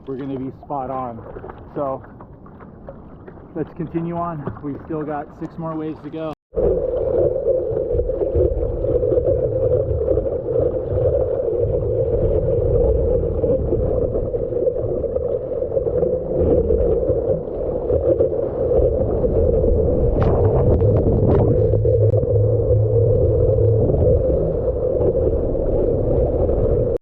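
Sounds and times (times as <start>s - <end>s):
muffled rush of ocean water: 0.0s - 27.0s.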